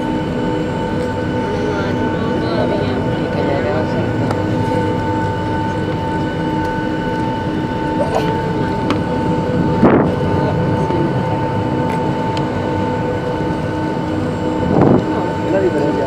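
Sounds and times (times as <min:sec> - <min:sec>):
jet engine cabin rumble and whine: 0:00.0 - 0:16.0.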